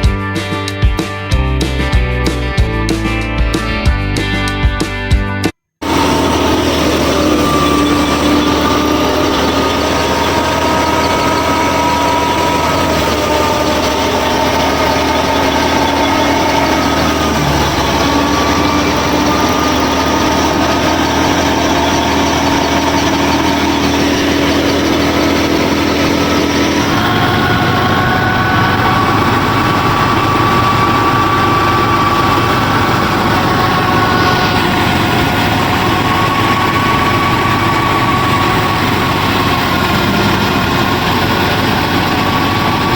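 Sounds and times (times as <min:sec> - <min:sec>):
small motors droning: 0:05.8 - 0:42.9.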